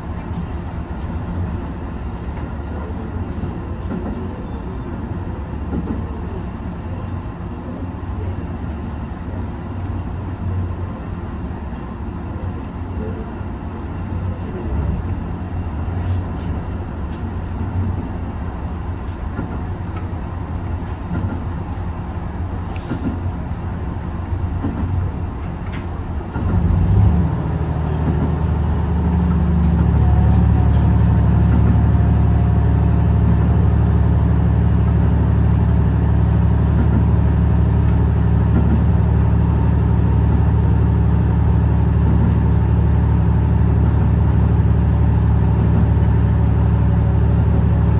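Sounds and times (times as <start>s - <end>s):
train running noise on board: 0.0s - 47.9s.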